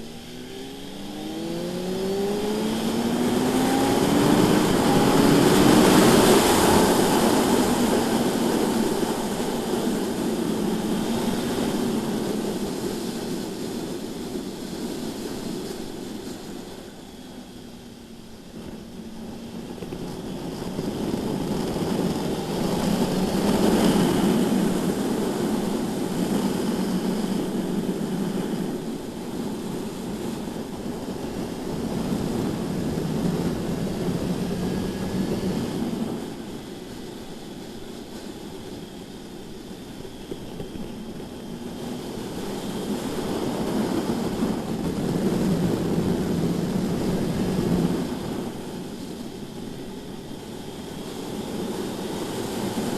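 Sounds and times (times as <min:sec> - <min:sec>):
motorcycle engine at speed: 0:00.0 - 0:52.9.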